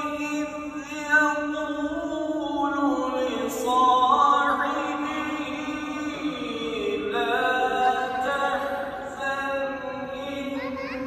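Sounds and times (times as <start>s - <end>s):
person chanting recitation: 0.0s - 11.0s.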